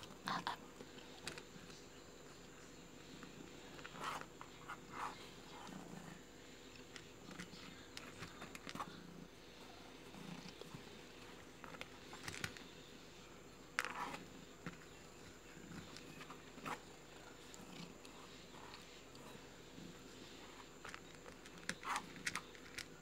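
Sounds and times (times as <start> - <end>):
cat purring faintly: 0.0 - 23.0.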